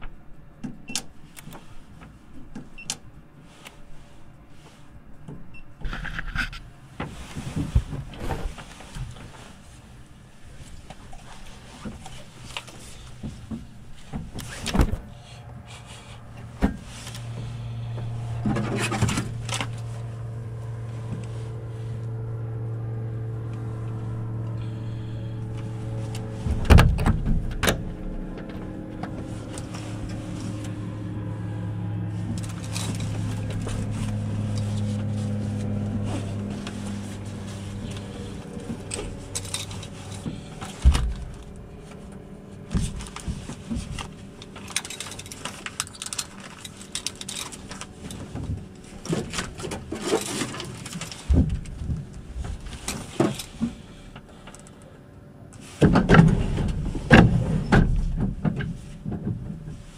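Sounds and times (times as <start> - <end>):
knocks and rustles of handling: 0.0 - 54.9, 55.5 - 59.9
engine humming: 6.6 - 59.9.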